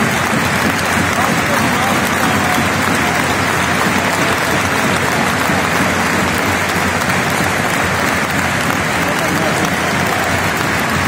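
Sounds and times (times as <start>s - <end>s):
stadium crowd applauding: 0.0s - 11.0s.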